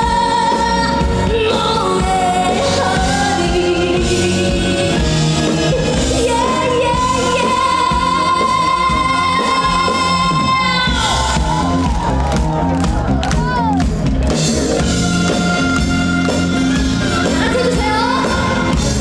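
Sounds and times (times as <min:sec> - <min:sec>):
pop song sung live with band: 0:00.0 - 0:12.7, 0:14.6 - 0:19.0.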